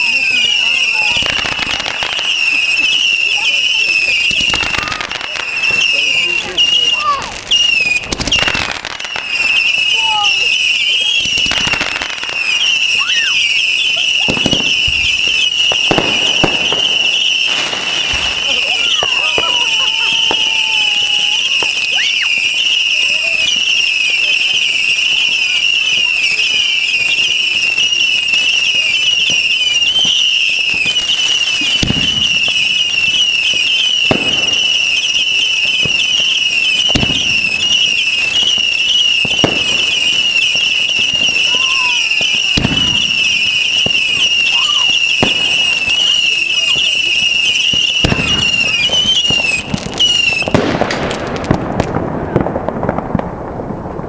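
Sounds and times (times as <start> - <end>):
high warbling firework whistle: 0.0 - 50.9
firework bangs: 0.0 - 54.0.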